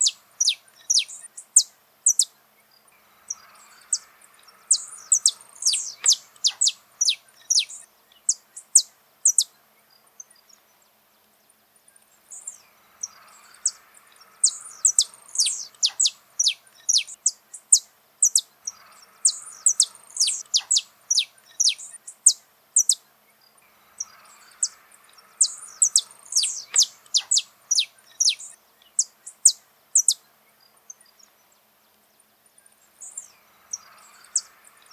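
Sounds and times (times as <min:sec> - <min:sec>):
finch singing high chirps: 0:00.0 - 0:10.8, 0:11.9 - 0:31.6, 0:32.6 - 0:34.9.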